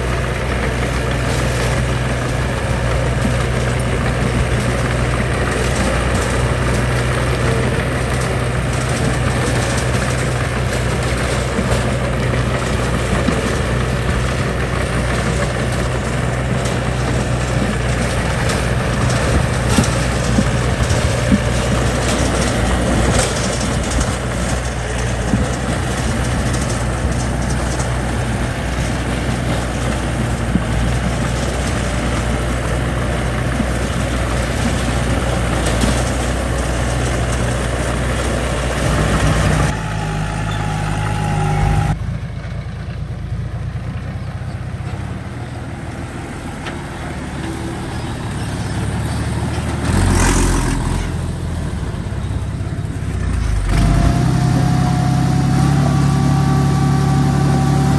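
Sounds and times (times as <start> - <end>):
heavy machinery diesel engines running: 0.0 - 57.9.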